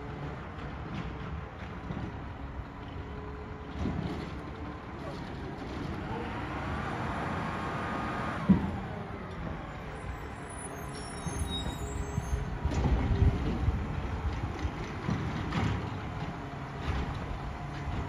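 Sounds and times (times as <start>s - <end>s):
truck engine and hydraulics: 0.0s - 18.0s.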